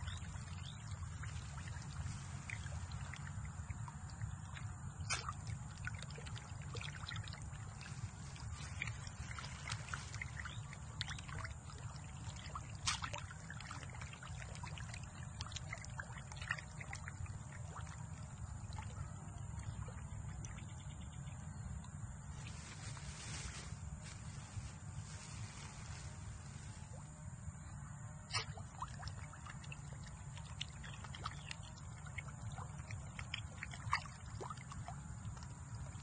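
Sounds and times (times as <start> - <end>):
fish splashing on pond surface: 0.0 - 20.7, 22.2 - 27.3, 28.3 - 36.0
steady low rumble: 0.0 - 36.0.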